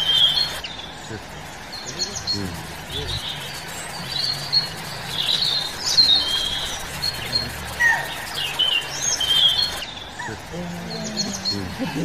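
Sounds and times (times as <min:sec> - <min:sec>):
faint low hum: 0:00.0 - 0:12.0
forest birds chirping: 0:00.0 - 0:12.0.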